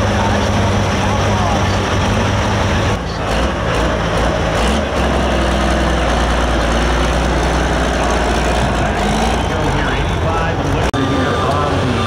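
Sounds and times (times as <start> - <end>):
loud diesel engine running: 0.0 - 12.0.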